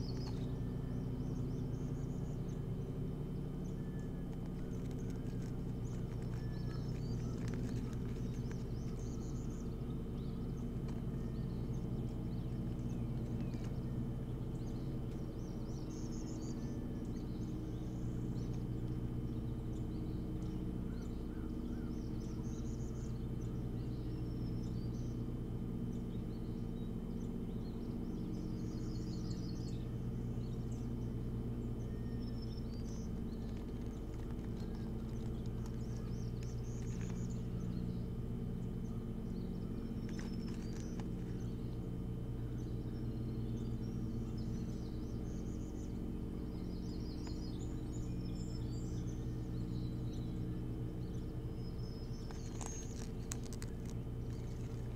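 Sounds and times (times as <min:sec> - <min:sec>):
bird chirps and trills: 0:00.0 - 0:54.9
steady low hum: 0:00.0 - 0:54.9.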